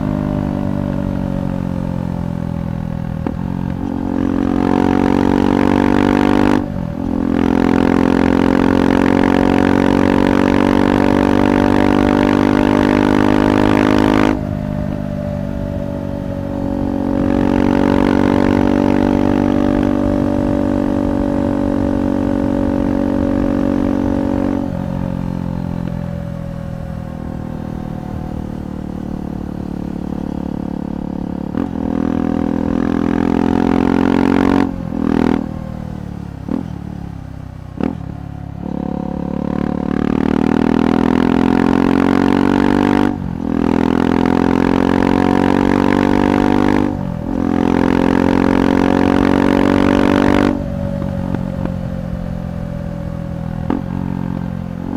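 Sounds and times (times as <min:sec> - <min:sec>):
motorcycle engine under load: 0:00.0 - 0:54.9.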